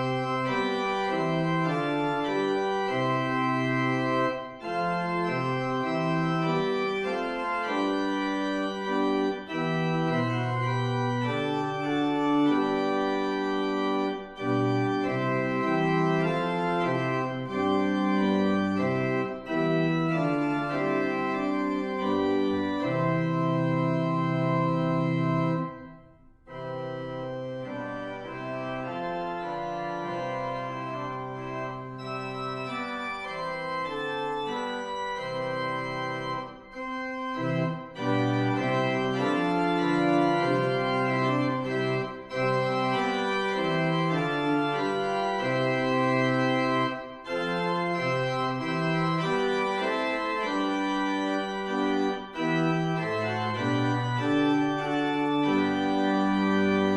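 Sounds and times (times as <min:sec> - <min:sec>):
organ playing a hymn: 0:00.0 - 0:56.9.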